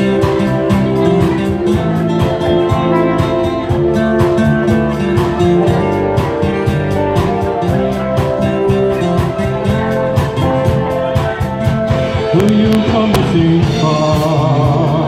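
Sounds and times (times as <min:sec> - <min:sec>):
instrumental music with steady beat: 0:00.0 - 0:15.0.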